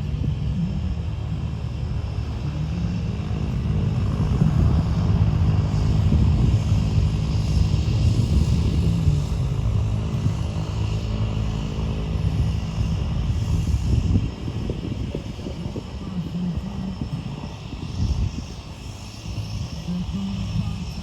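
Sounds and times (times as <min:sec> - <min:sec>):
light aircraft engine drone: 0:00.0 - 0:21.0.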